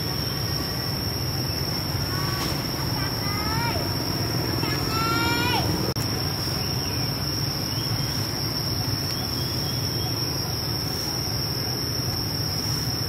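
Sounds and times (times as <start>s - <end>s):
low steady rumble: 0.0s - 12.0s
insects droning: 0.0s - 13.0s.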